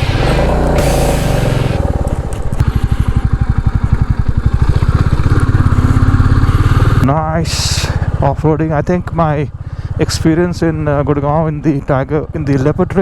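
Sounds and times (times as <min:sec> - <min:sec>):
motorcycle engine exhaust pulsing: 0:00.0 - 0:13.0.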